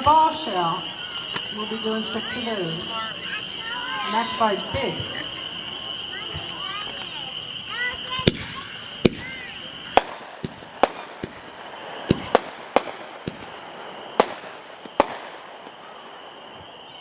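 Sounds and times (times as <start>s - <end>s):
firework shells banging: 0.0s - 16.9s.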